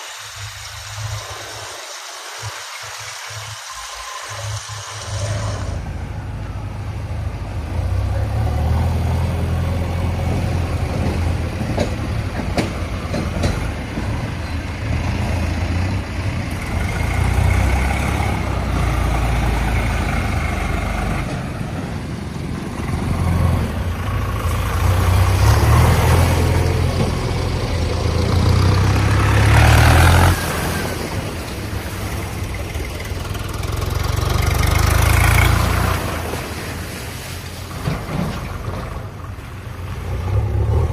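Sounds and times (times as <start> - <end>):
tractor engine rumbling: 0.0 - 40.9.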